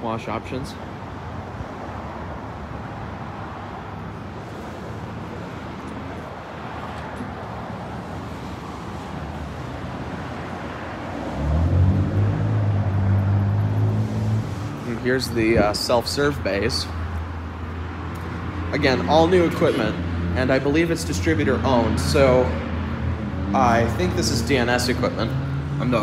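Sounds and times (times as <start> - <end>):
outdoor traffic noise: 0.0 - 26.0.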